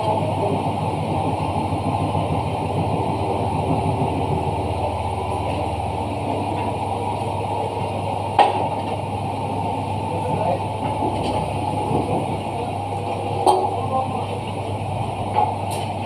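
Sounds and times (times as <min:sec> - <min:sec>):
machinery drone: 0:00.0 - 0:16.0.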